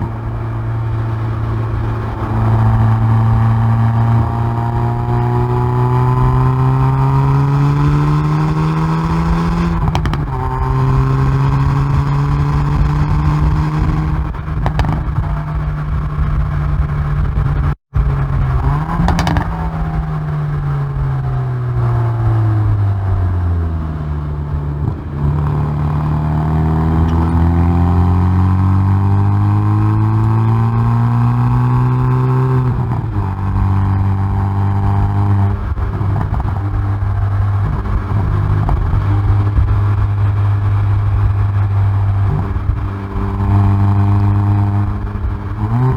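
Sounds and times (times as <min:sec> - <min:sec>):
car engine revving through exhaust: 0:00.0 - 0:45.9.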